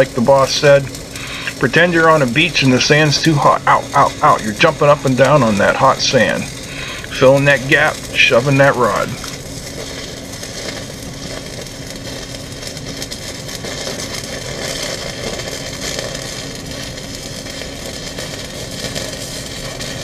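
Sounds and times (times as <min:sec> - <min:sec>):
steady low hum: 0:00.0 - 0:20.0
welding arc crackling and hissing: 0:00.0 - 0:20.0.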